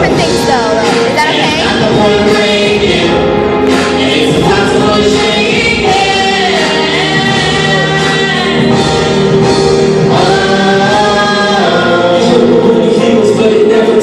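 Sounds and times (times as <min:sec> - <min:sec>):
vocal group singing in harmony: 0:00.0 - 0:14.0.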